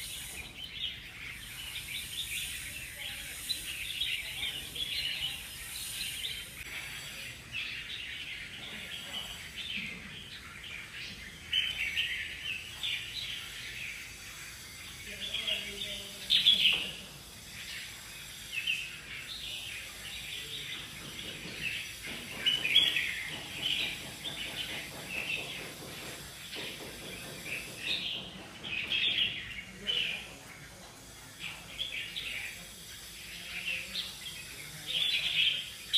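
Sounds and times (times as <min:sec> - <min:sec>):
birds chirping and whistling: 0:00.0 - 0:35.9.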